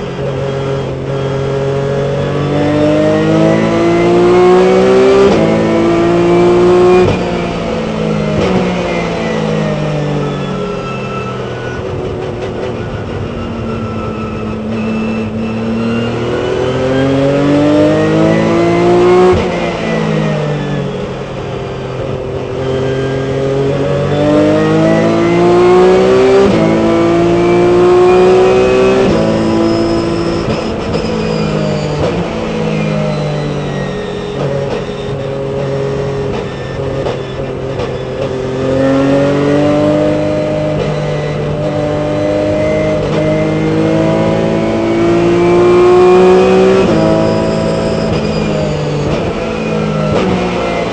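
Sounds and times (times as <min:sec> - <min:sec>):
race car engine revving: 0:00.0 - 0:50.9.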